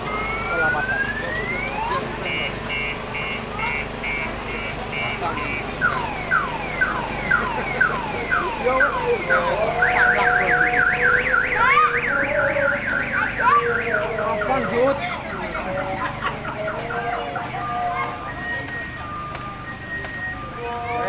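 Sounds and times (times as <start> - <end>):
electronic alarm siren: 0.0 - 21.0.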